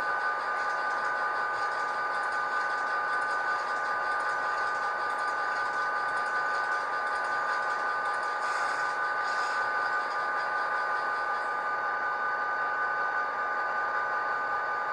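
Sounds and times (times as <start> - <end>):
model locomotive diesel engine sound: 0.0 - 14.9.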